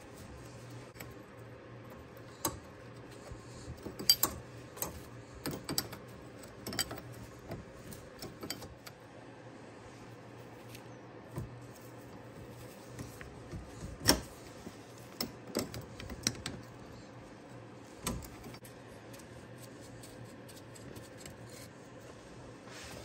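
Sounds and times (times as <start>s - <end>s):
faint handling noise: 0.0s - 23.0s.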